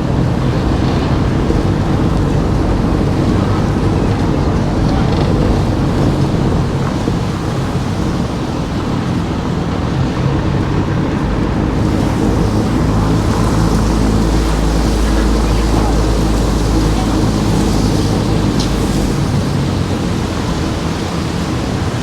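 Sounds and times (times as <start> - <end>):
car engine: 0.0 - 22.0
low rumble: 0.0 - 22.0
road noise: 0.0 - 22.0.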